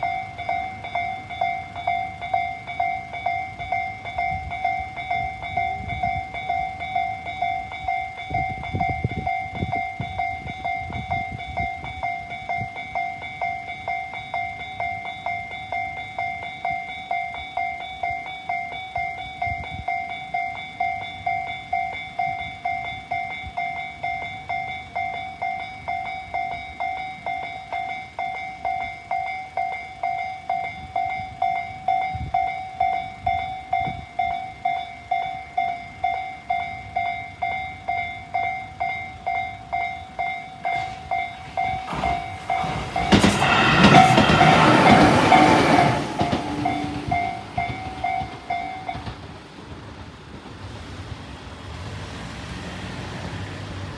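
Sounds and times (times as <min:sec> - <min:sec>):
level crossing warning bell: 0:00.0 - 0:49.5
train passing loudly: 0:00.0 - 0:53.9.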